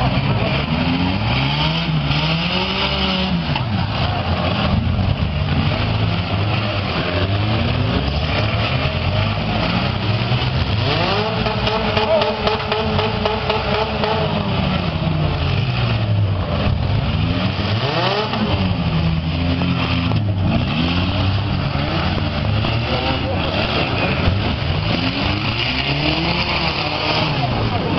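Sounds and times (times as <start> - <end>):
car engines revving: 0.0 - 27.9.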